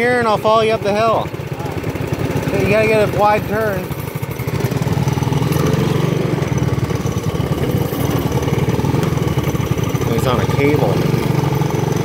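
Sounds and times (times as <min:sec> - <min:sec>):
small engines throbbing: 0:00.0 - 0:12.0.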